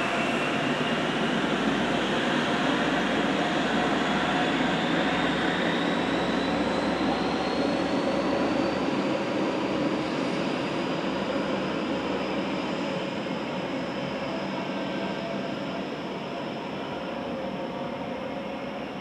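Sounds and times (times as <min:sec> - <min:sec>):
diesel train engines working hard: 0:00.0 - 0:19.0.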